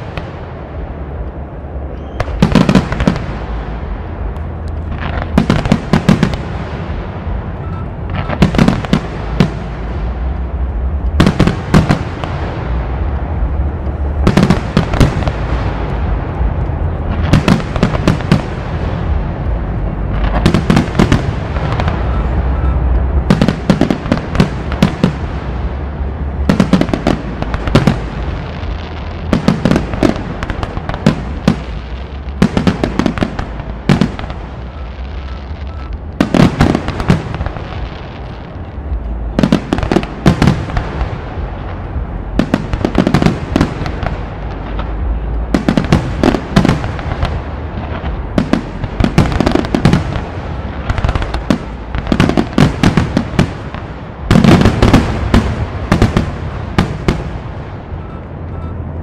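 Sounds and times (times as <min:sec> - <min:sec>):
fireworks bursting: 0:00.0 - 0:59.0
steady low rumble: 0:00.0 - 0:59.0.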